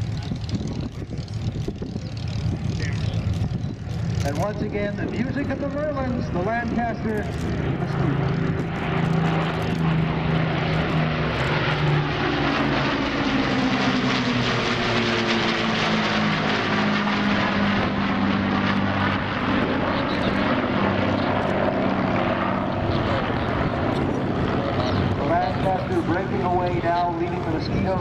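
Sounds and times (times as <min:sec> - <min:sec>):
propeller aircraft engines flying past: 0:00.0 - 0:28.0.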